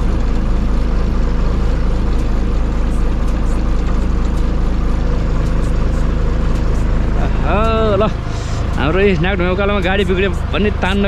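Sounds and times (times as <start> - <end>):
diesel engine low rumble: 0.0 - 11.0.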